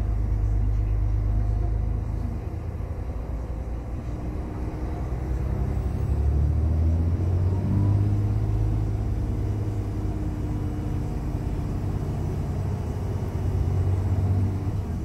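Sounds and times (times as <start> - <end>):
diesel coach engine droning: 0.0 - 15.0.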